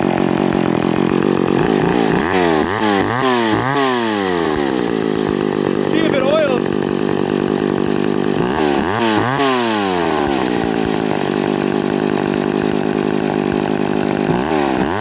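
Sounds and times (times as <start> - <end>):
chainsaw idling and revving: 0.0 - 15.0.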